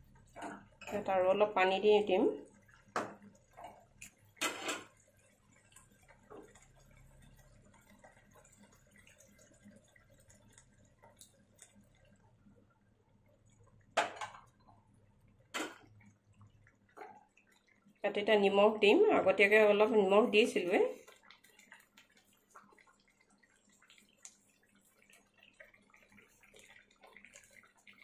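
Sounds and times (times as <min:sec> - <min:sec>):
water pouring: 0:00.0 - 0:28.0.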